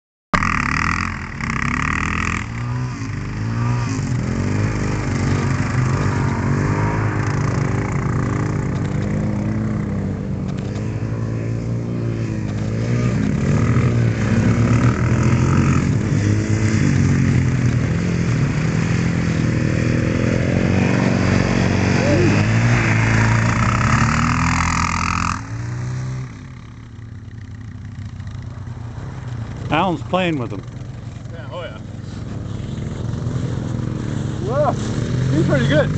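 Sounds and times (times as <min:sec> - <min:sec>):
dirt bike engines revving: 0:00.4 - 0:35.9.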